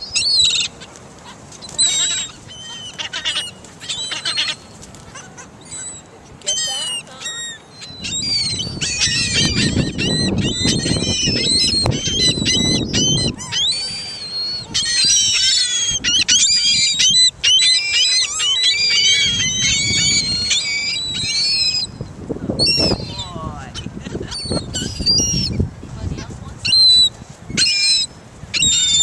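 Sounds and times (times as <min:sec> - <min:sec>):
seagulls calling: 0:00.0 - 0:29.0.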